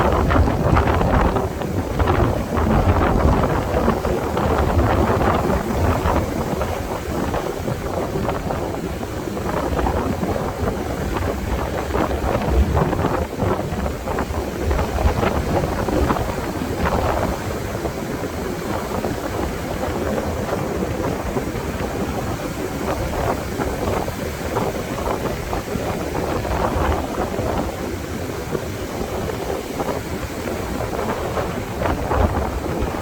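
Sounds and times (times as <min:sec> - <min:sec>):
ocean surf: 0:00.0 - 0:33.0
wind buffeting microphone: 0:00.0 - 0:33.0.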